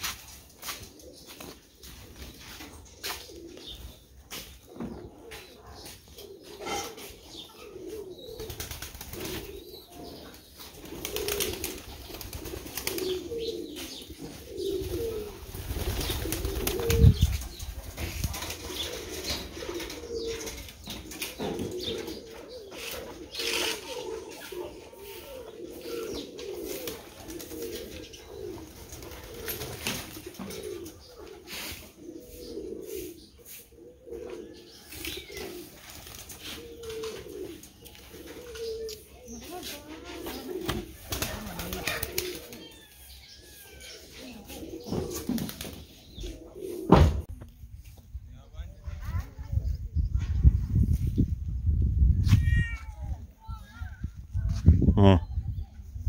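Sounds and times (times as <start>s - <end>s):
pigeons cooing: 0.0s - 47.3s.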